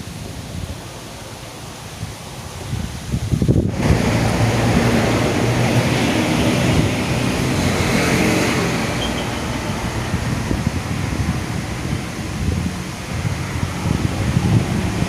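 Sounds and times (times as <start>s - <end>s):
strong wind gusting on microphone: 0.0s - 15.0s.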